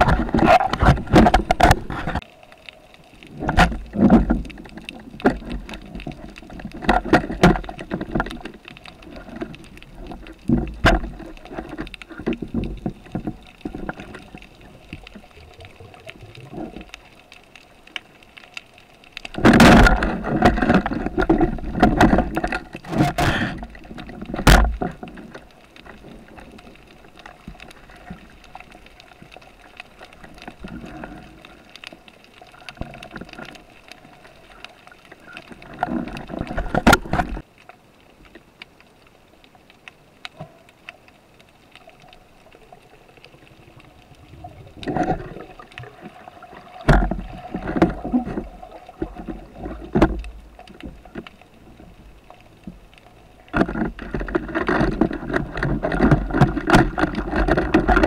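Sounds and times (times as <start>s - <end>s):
rushing bubbling water underwater: 0.0s - 58.0s.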